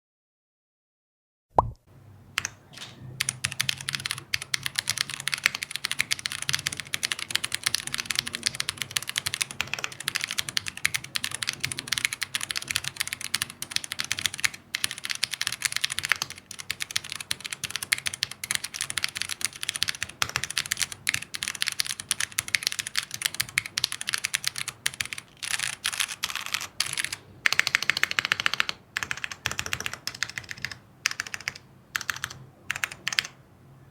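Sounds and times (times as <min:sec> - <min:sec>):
mechanical keyboard typing: 0:02.4 - 0:33.4.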